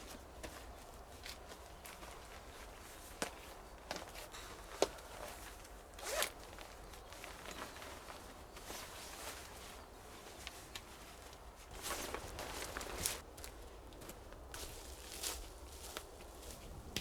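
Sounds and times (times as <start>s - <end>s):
light ticks and rustles: 0.0s - 17.0s.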